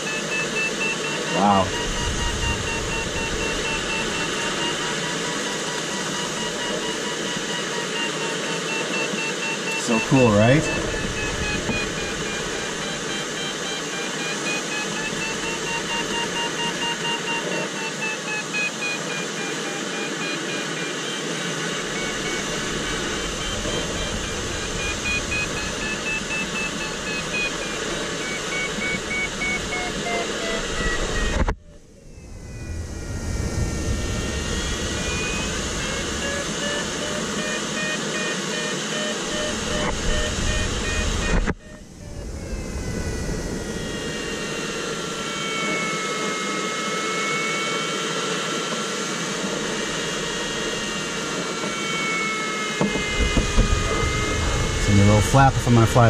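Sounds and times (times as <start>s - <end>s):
variometer tones: 0.0s - 56.0s.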